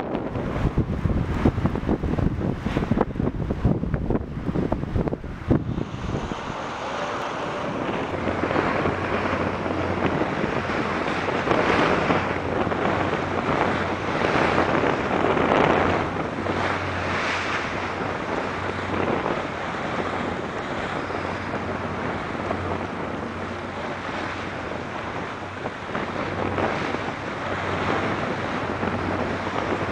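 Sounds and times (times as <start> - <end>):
choppy water: 0.0 - 29.9
wind buffeting microphone: 0.0 - 29.9.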